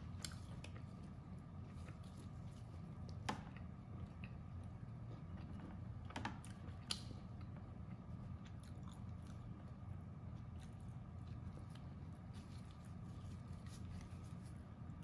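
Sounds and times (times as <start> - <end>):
low steady hum: 0.0 - 15.0
soft eating clicks and crackles: 0.0 - 15.0.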